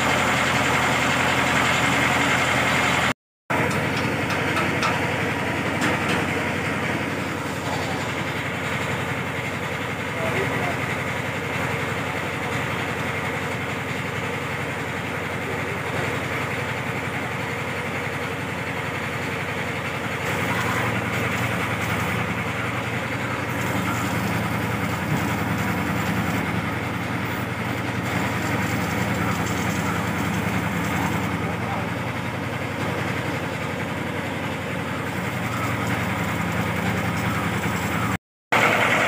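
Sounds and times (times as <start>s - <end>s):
engine humming: 0.0s - 39.0s.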